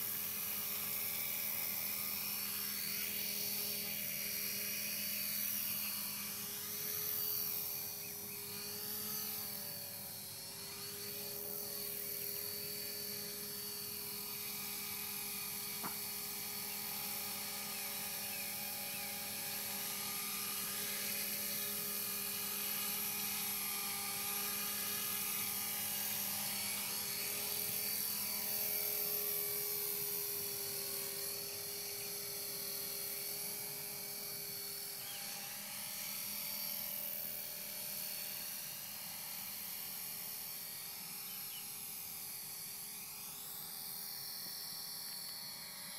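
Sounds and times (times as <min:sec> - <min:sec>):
rc helicopter high-pitched whine: 0:00.0 - 0:45.9.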